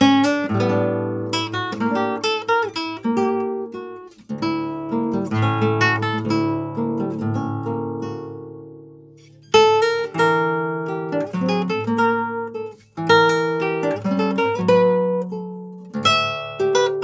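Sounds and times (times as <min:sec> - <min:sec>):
fingerstyle classical guitar: 0:00.0 - 0:17.0.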